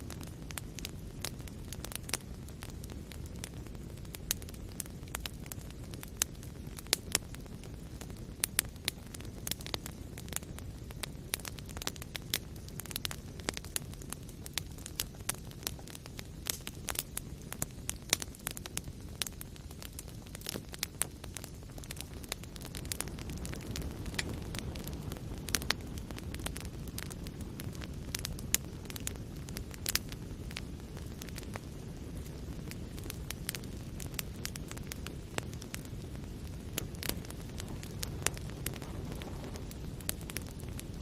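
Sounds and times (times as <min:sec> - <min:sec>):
fire crackling and popping: 0:00.0 - 0:41.0
low rumble of flame: 0:00.0 - 0:41.0.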